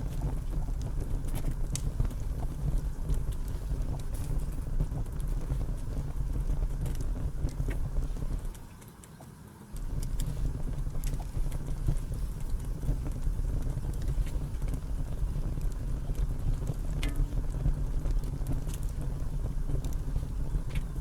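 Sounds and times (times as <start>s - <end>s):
wind buffeting microphone: 0.0s - 8.7s, 9.7s - 21.0s
faint scattered clicks: 0.0s - 21.0s.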